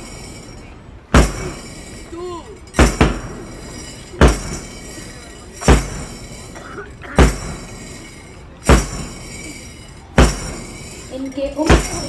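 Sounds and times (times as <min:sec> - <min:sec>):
crashing percussion strikes: 0:00.0 - 0:02.1, 0:02.7 - 0:12.0.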